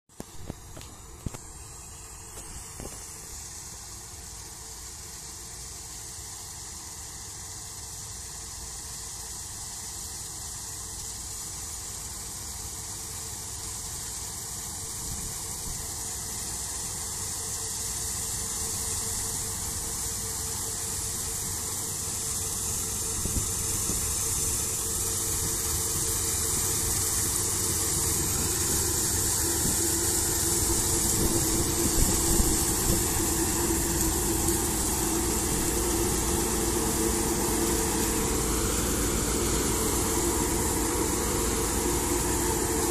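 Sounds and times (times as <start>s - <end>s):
combine harvester running: 0.1s - 42.9s.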